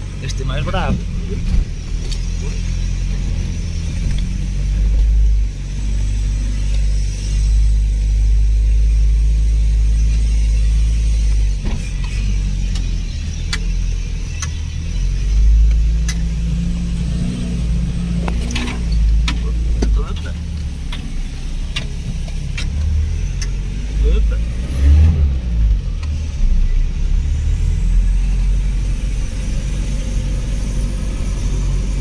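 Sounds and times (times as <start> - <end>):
vehicle engine low rumble: 0.0 - 32.0.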